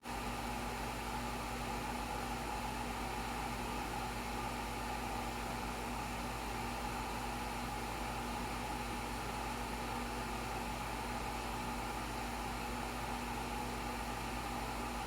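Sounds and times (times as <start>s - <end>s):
steady motor hum and hiss: 0.1s - 15.0s.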